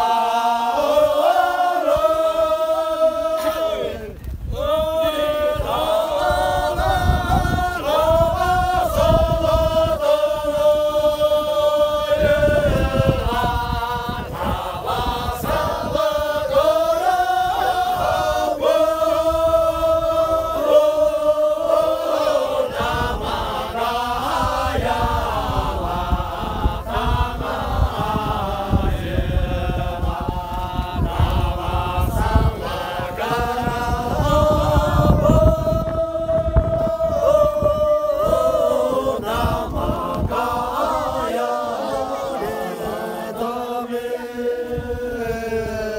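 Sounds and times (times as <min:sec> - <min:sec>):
men singing unaccompanied: 0:00.0 - 0:45.9.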